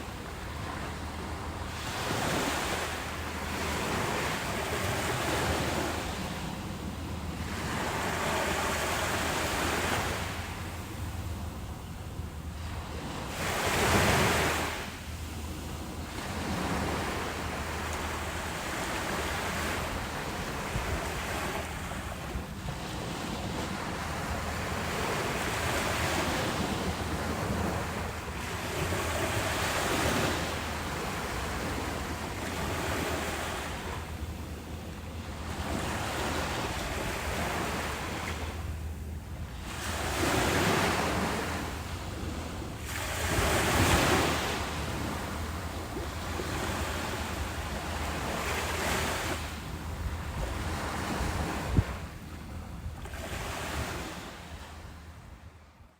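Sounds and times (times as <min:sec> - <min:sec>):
ocean waves breaking on beach: 0:00.0 - 0:55.8
wind rumble on microphone: 0:00.0 - 0:55.9.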